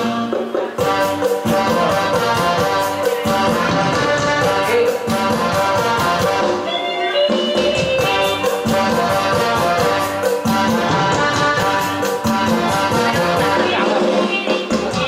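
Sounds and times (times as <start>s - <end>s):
instrumental music over loudspeakers: 0.0s - 15.0s.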